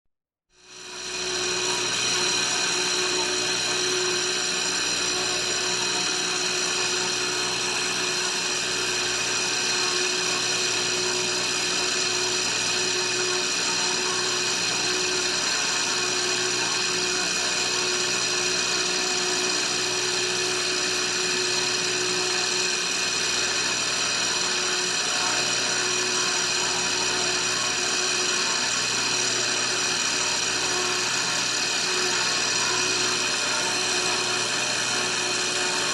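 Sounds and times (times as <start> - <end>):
electric water pump whirring: 0.6 - 35.9.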